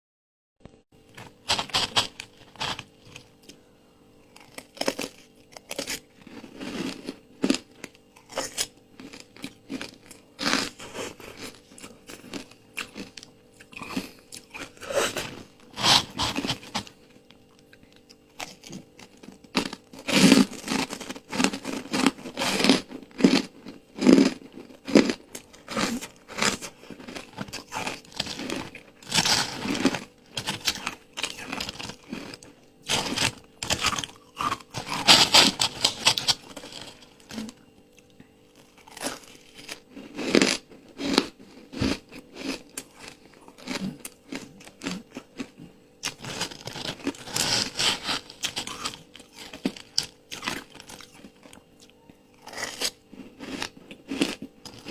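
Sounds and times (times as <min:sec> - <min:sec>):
ice crunching being chewed: 0:01.1 - 0:03.6, 0:04.2 - 0:54.9.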